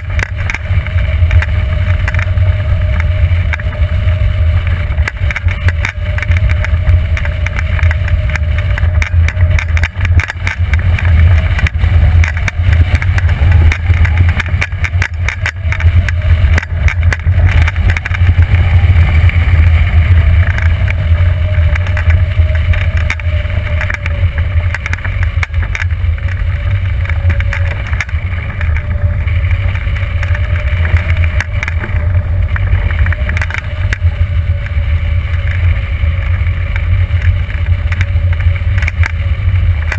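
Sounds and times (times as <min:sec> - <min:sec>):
gusty crackles: 0:00.0 - 0:39.9
wind buffeting microphone: 0:00.0 - 0:39.9.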